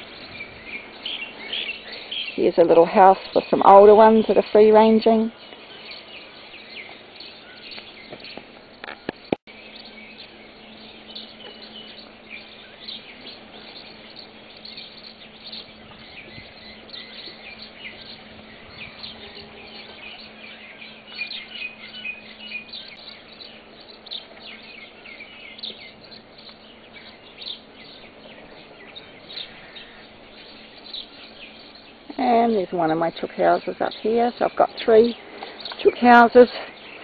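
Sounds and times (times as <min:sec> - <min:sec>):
birds chirping: 0:00.0 - 0:37.0
low steady hum: 0:00.0 - 0:37.0.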